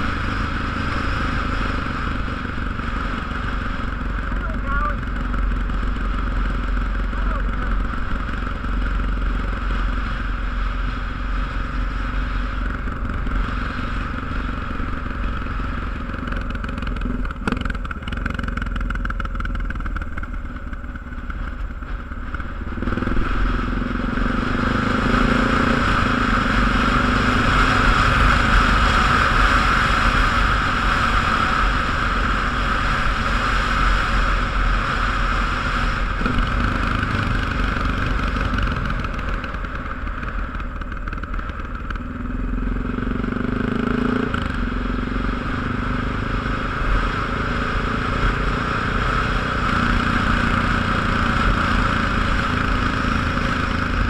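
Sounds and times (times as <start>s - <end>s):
road noise: 0.0s - 54.0s
vehicle engine: 0.0s - 54.0s.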